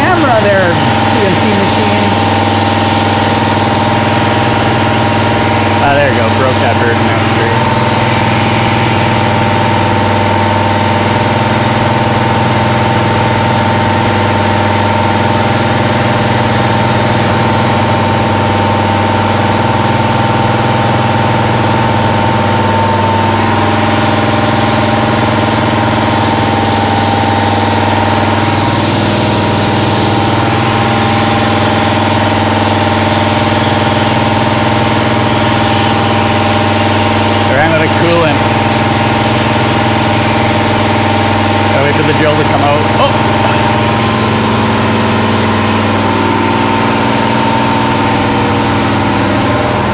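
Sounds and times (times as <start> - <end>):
coolant spray hiss: 0.0 - 49.6
milling machine humming: 0.0 - 49.9.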